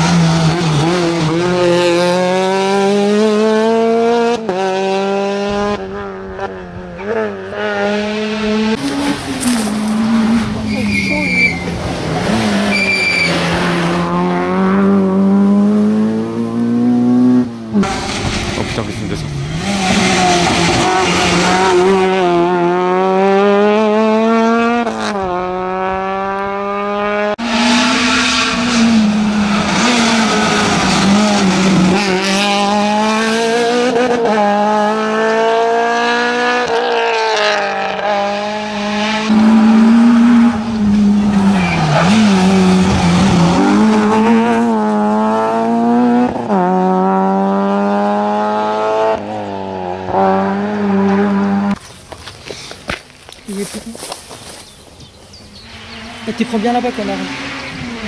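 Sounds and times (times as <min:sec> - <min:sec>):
rally car engines revving: 0:00.0 - 0:52.8, 0:55.3 - 0:58.0.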